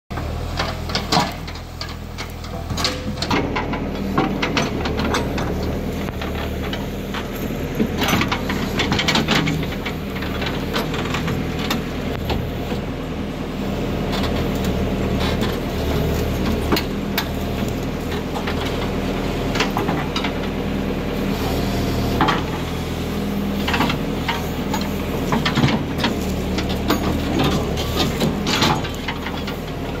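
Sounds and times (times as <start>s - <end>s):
diesel engine running under load: 0.1s - 30.0s.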